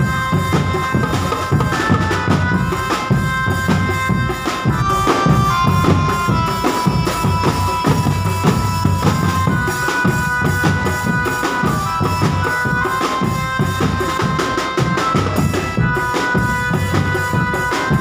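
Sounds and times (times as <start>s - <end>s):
bass drums and snare drums: 0.0s - 18.0s
wind instrument melody: 0.0s - 18.0s.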